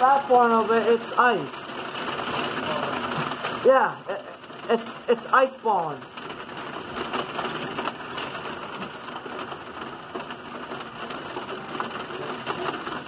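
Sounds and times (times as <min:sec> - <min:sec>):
hail pelting on pavement: 0:00.0 - 0:13.0.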